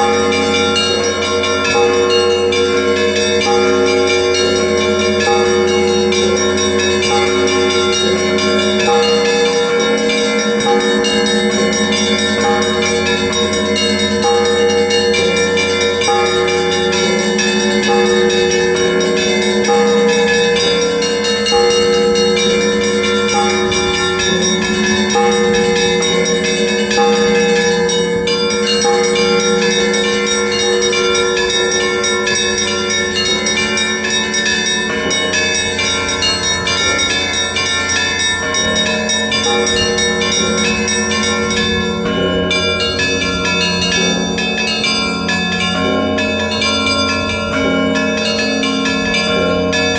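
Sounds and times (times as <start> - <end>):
deep church bells: 0.0 - 49.9
quick strikes on high bells: 0.0 - 49.9.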